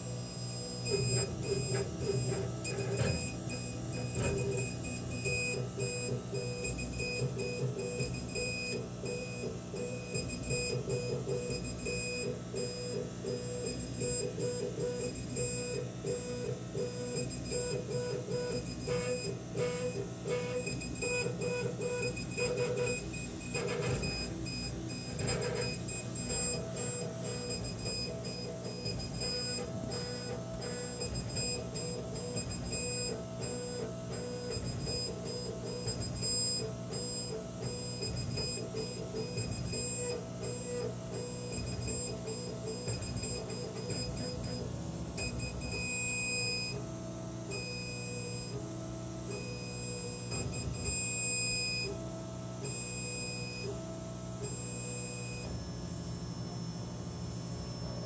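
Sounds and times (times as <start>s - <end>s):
steady machine hum: 0.0s - 58.0s.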